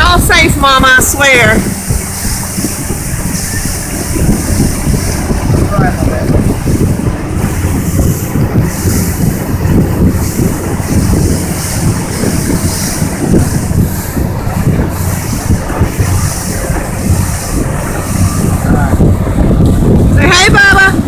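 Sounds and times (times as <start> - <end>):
motorboat engine and water rumble: 0.0 - 21.0
wind buffeting microphone: 0.0 - 21.0.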